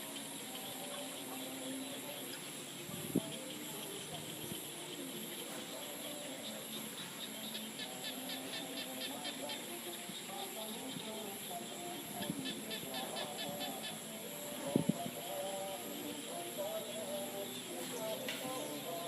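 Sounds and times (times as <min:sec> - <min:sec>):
frogs croaking: 0:00.0 - 0:19.0
rapid high pulsed frog calls: 0:00.0 - 0:19.0.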